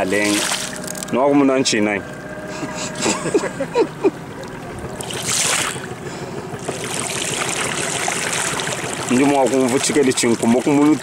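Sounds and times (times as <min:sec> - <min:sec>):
river water rushing along boat: 0:00.0 - 0:11.0.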